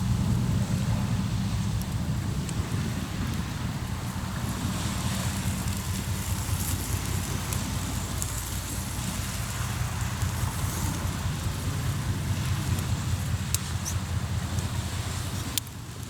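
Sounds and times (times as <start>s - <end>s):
campfire crackling and popping: 0.0s - 16.0s
steady low rumble: 0.0s - 16.0s.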